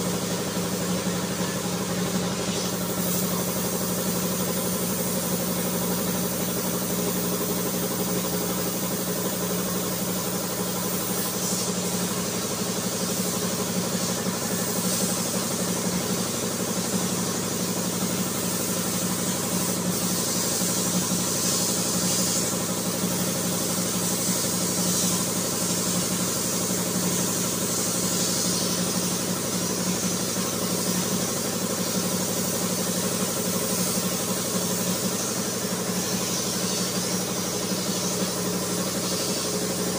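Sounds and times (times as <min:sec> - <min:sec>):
air compressor motor hum: 0:00.0 - 0:39.9
high hiss: 0:00.0 - 0:39.9.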